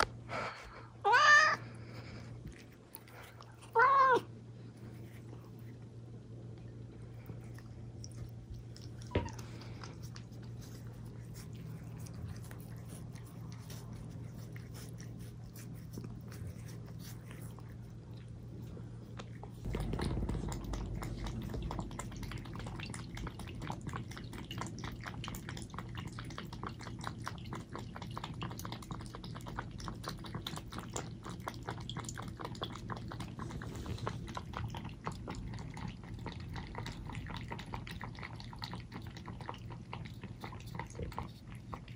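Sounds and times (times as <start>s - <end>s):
cats lapping milk: 0.0s - 41.9s
steady low hum: 0.0s - 41.9s.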